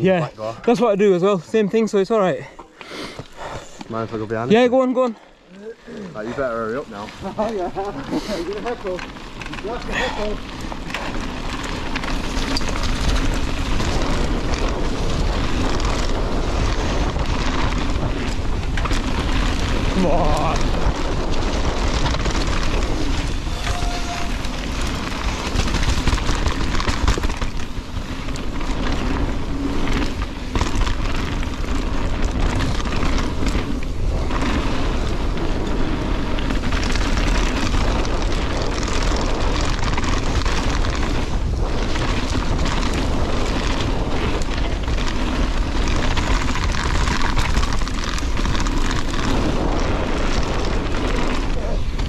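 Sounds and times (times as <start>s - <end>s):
bike knocking and rattling: 6.2s - 52.0s
wind noise on microphone: 7.2s - 52.0s.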